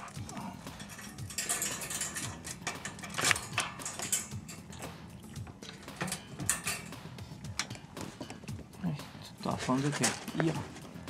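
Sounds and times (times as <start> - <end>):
wire cage clicking and rattling: 0.0 - 11.0.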